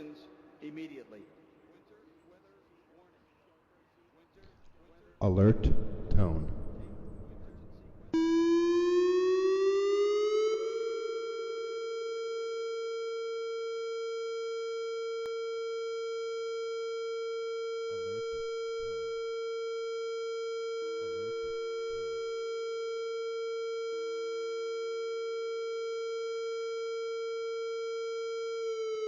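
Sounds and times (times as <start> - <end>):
tornado siren tone: 5.6 - 29.0.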